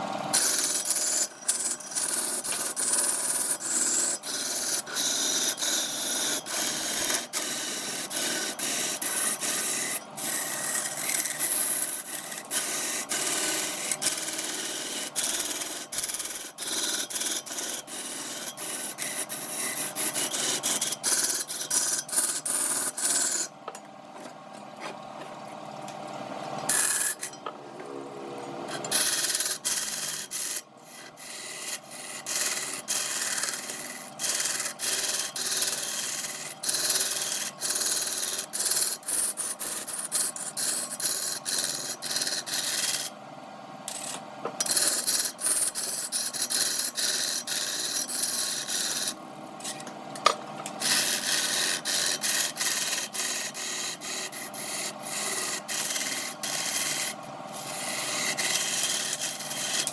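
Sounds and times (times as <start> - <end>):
wood scraping on a lathe: 0.3 - 23.5, 26.7 - 27.3, 28.7 - 43.1, 43.9 - 59.9.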